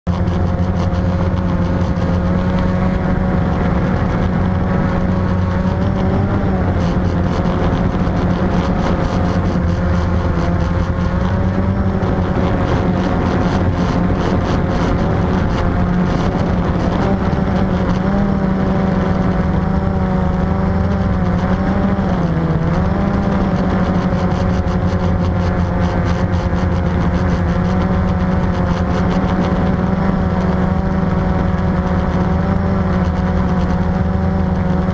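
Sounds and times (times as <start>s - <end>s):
quadcopter motors buzzing: 0.1s - 34.9s.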